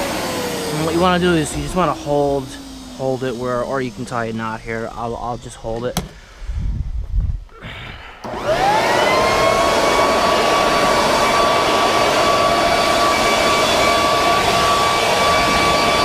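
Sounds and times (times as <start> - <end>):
electric leaf blower whine: 0.0 - 6.3, 8.2 - 16.0.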